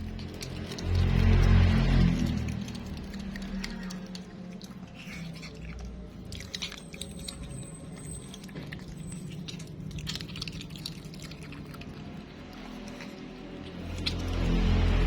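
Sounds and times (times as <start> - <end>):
otter chewing and crunching: 0.0 - 15.0.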